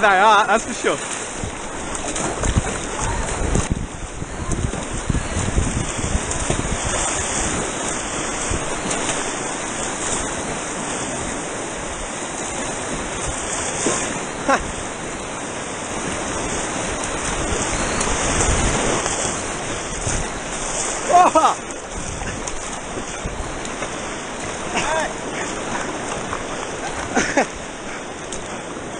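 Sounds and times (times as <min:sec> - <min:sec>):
river water rushing: 0:00.0 - 0:28.9.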